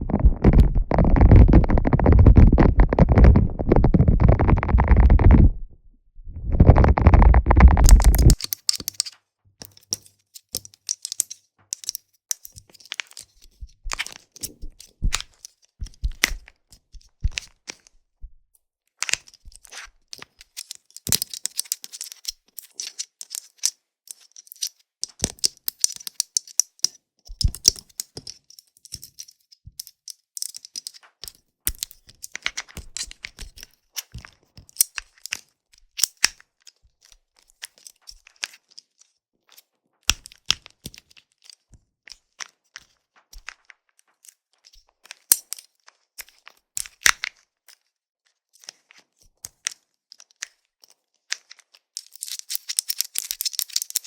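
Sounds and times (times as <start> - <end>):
plastic bracelet clicks and crackles: 0.1 - 5.8, 6.4 - 18.0, 19.0 - 47.9, 48.6 - 54.0.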